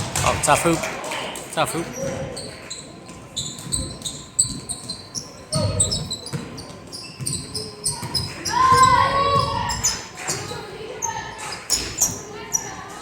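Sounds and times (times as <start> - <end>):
sneaker squeaks: 1.8 - 13.0.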